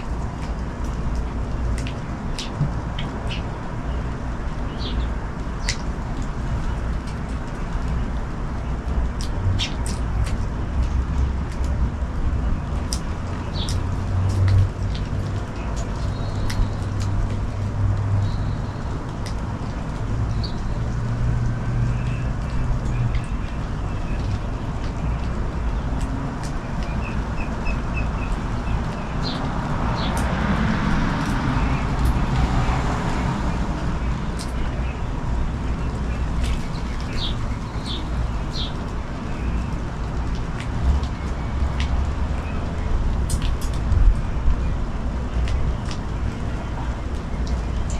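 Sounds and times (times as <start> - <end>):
small birds chirping: 0.0 - 10.4, 12.4 - 30.6, 31.2 - 47.9
steady rain: 0.0 - 47.9.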